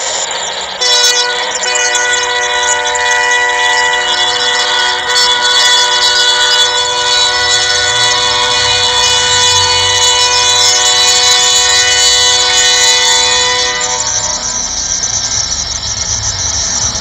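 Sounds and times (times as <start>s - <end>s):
train horn blast: 0.8s - 14.6s.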